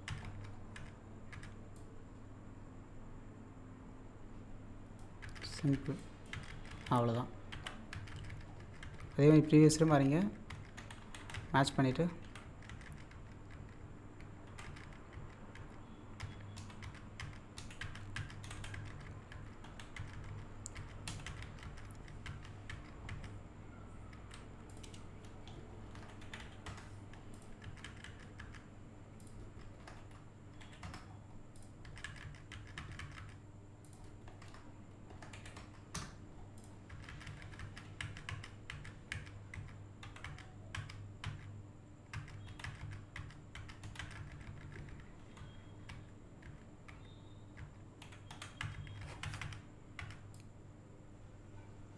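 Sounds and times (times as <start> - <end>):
computer keyboard keys tapping: 0.0 - 1.9, 5.0 - 41.5, 42.1 - 50.4
low steady hum: 0.0 - 51.9.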